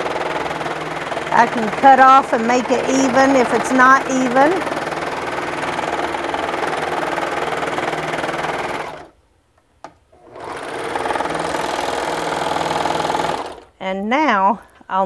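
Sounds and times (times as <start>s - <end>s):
overlock sewing machine running: 0.0s - 9.2s, 10.2s - 13.8s.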